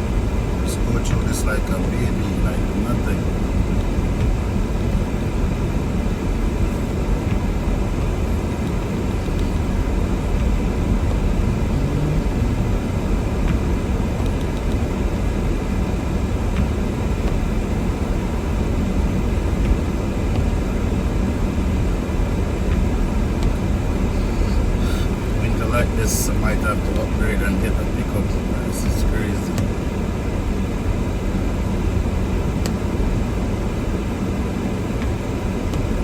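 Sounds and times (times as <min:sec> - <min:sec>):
car driving on snow: 0:00.0 - 0:36.0.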